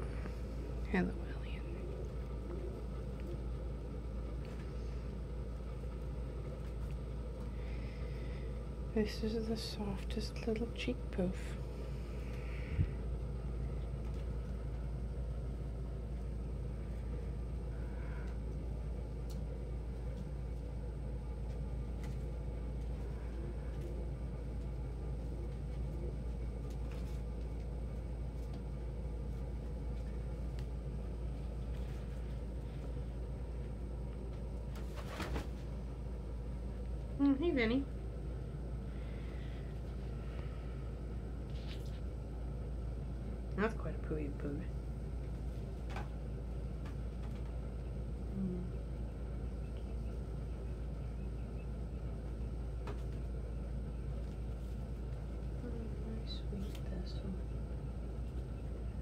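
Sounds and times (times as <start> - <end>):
low background hum: 0.0 - 59.0
steady low rumble: 0.0 - 59.0.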